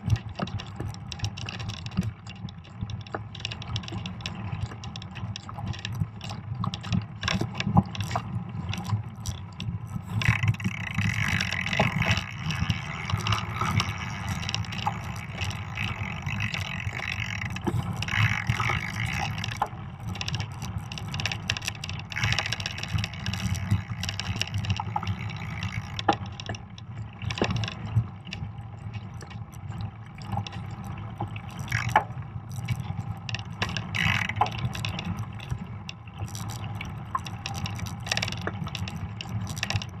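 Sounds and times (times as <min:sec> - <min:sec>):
bike rattling and clicking: 0:00.0 - 0:40.0.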